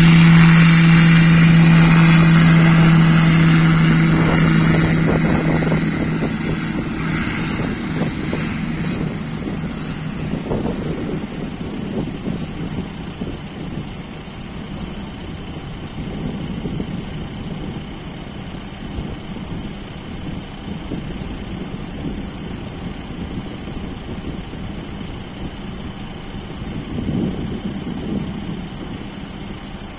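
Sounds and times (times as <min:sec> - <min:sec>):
distant aircraft engine droning: 0:00.0 - 0:29.9.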